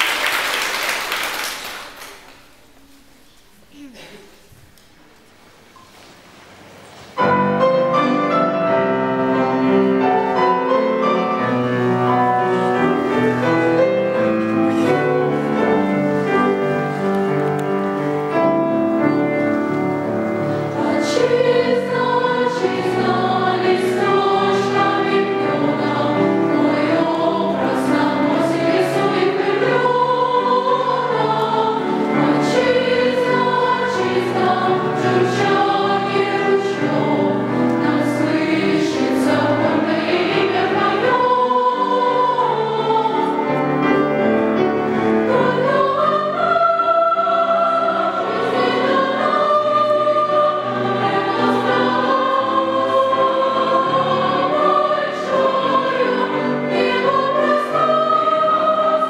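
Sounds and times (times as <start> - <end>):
grand piano accompaniment: 0.0 - 59.0
choir singing in parts: 7.2 - 59.0.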